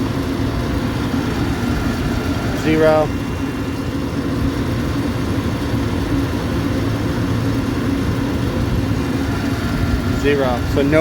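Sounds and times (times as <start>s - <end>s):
air rushing from blower: 0.0s - 11.0s
fan motor hum: 0.0s - 11.0s.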